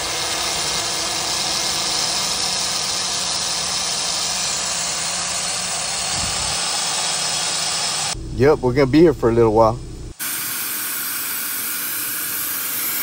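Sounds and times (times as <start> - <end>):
air and water hissing from valve: 0.0 - 8.2, 10.2 - 13.0.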